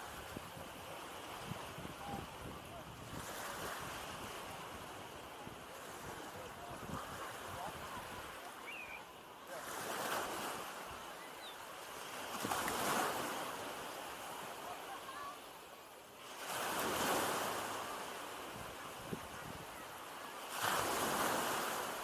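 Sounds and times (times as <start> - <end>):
small waves breaking on sand: 0.0 - 22.0.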